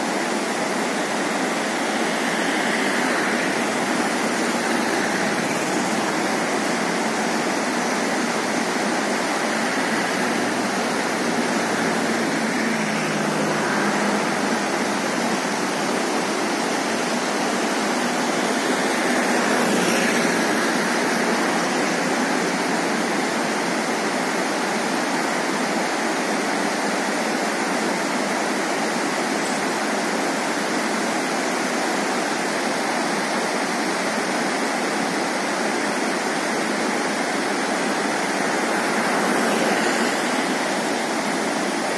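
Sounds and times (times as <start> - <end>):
river rushing over rocks: 0.0 - 41.9.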